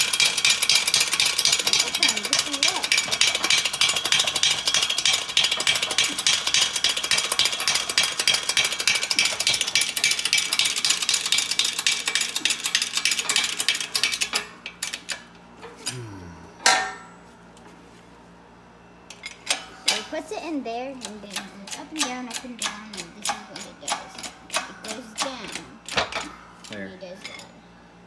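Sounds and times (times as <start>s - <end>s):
rapid mechanical rattling: 0.0s - 15.3s, 19.1s - 27.5s.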